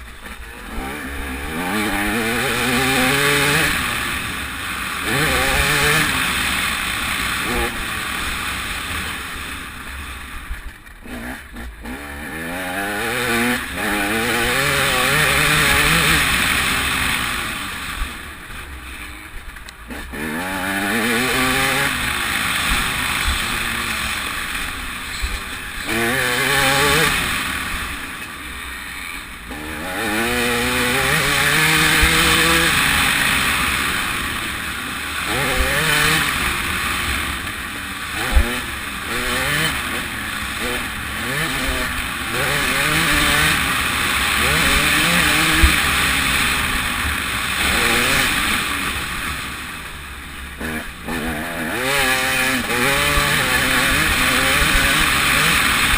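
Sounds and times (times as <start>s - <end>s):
two-stroke motocross engine revving: 0.0s - 55.9s.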